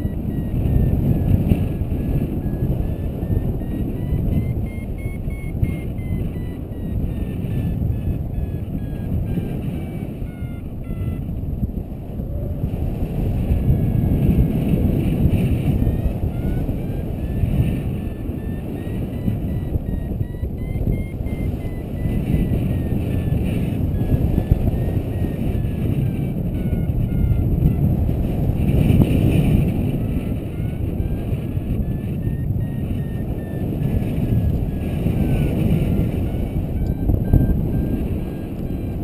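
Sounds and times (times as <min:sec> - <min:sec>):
variometer beeping tone: 0:00.0 - 0:11.7, 0:13.4 - 0:39.0
wind buffeting microphone: 0:00.0 - 0:39.0.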